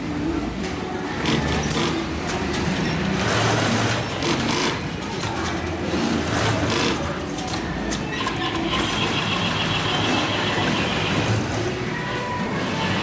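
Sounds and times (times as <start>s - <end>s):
sewing machine motors humming: 1.1s - 13.0s.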